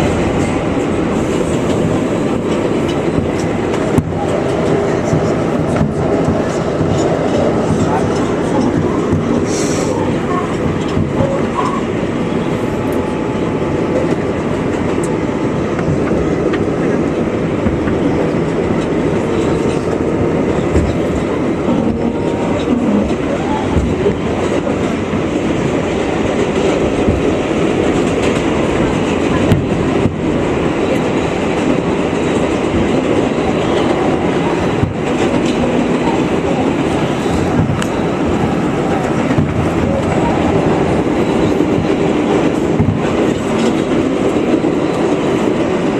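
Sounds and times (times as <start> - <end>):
rail joint clicks: 0.0 - 45.9
train wheels rumbling on rail: 0.0 - 45.9.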